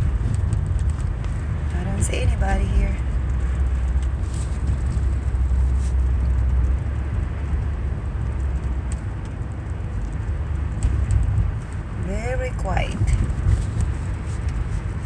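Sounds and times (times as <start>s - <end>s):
car driving rumble from cabin: 0.0s - 15.0s.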